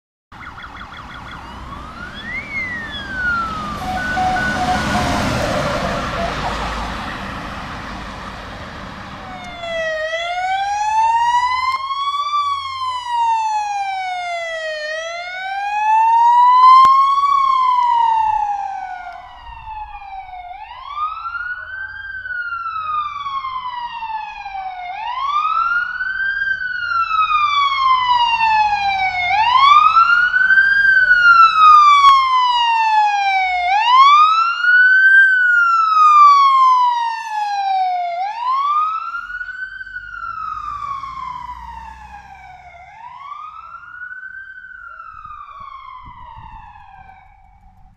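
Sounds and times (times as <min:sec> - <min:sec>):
siren wailing: 0:00.3 - 0:47.9
traffic noise: 0:00.3 - 0:47.9
brief siren whoop: 0:00.4 - 0:07.9, 0:09.2 - 0:47.9.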